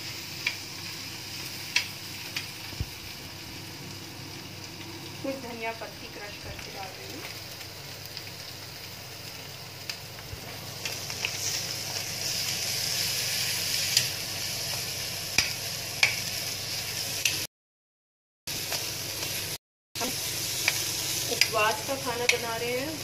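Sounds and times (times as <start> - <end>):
food sizzling in a pan: 0.0 - 17.5, 18.5 - 23.0.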